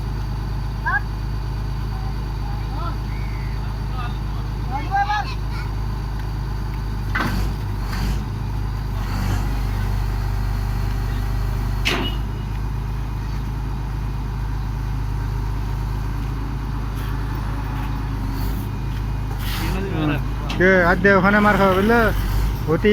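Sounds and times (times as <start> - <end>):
drilling rig engine running: 0.0 - 22.9.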